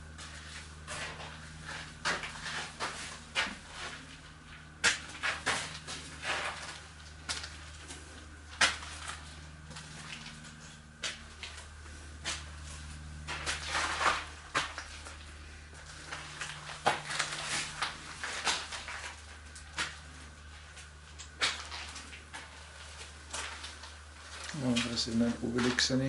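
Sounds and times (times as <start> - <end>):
low steady hum: 0.0 - 26.0
footstep clicks and scuffs: 0.1 - 26.0.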